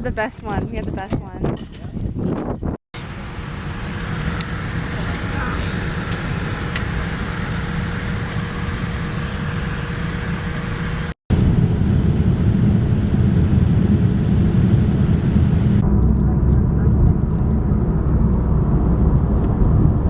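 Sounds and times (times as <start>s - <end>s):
car driving rumble: 3.0s - 20.0s.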